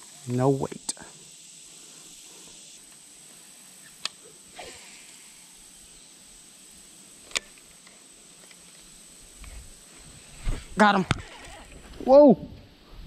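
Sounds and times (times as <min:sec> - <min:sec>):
high-pitched insect buzzing: 0:00.0 - 0:11.9.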